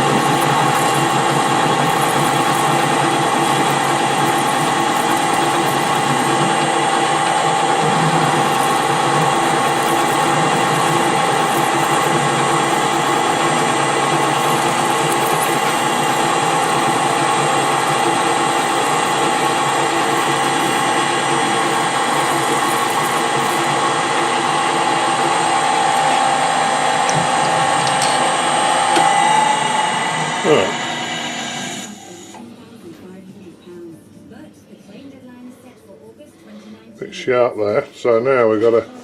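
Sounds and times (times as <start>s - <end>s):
metal lathe cutting steel whine: 0.0s - 32.4s.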